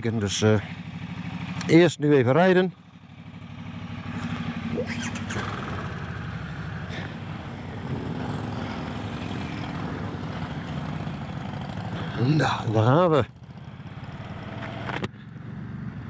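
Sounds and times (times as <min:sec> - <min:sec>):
motorcycle engine idling: 0:00.0 - 0:16.0
second engine: 0:00.0 - 0:16.0.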